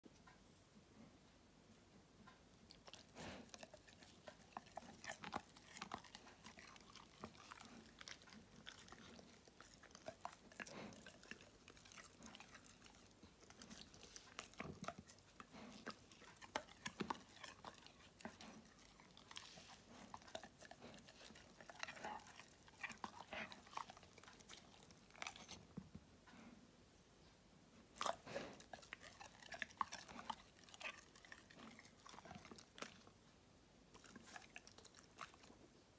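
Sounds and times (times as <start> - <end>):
dog chewing: 2.7 - 26.5, 27.9 - 33.3, 33.9 - 35.7.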